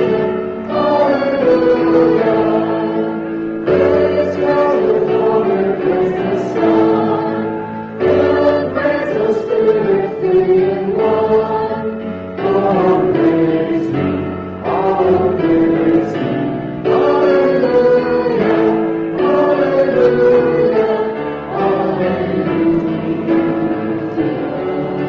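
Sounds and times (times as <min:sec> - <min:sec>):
keyboard accompaniment: 0:00.0 - 0:25.0
other voices singing: 0:00.0 - 0:25.0.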